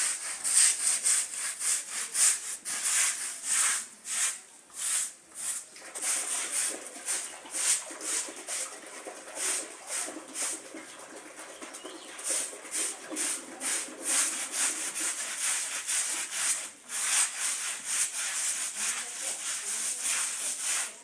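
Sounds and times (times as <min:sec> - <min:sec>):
scrubbing wet carpet: 0:00.0 - 0:21.0.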